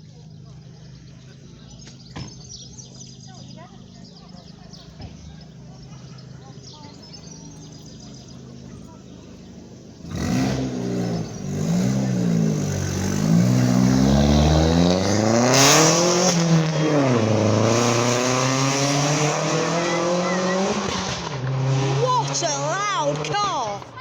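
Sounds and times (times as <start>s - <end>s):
car engine revving: 3.5s - 24.0s.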